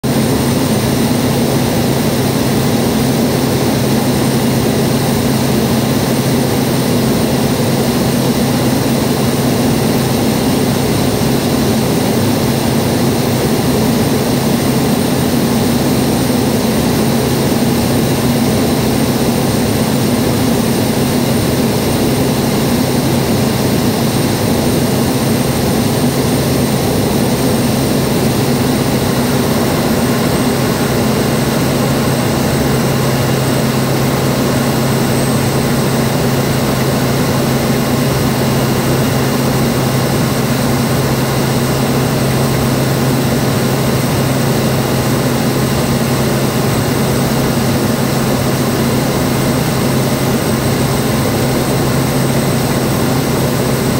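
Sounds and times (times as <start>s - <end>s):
turboprop engine drone: 0.0s - 53.9s
high engine whine: 0.1s - 53.9s.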